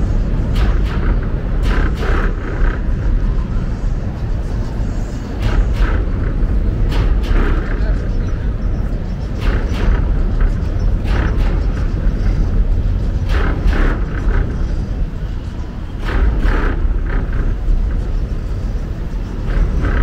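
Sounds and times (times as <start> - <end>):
traffic rumble on steel grid bridge: 0.0 - 20.0.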